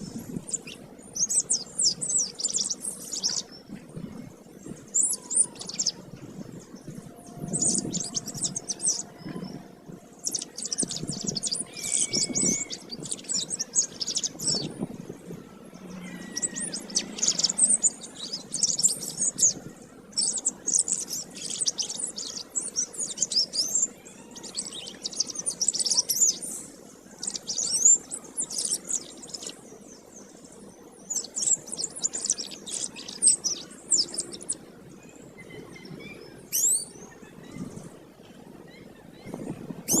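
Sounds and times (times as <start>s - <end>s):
canary singing trills: 0.0s - 3.7s, 4.7s - 6.0s, 6.6s - 34.7s, 35.3s - 37.9s, 38.8s - 40.0s.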